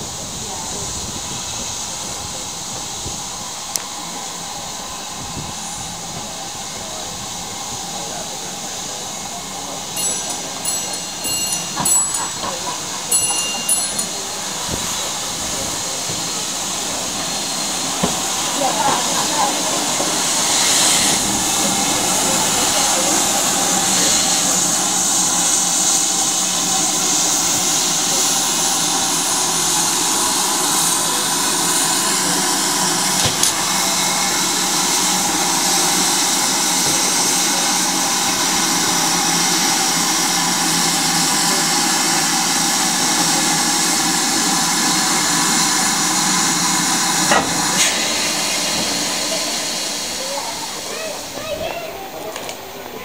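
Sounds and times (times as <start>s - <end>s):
steam hissing from locomotive: 0.0s - 53.0s.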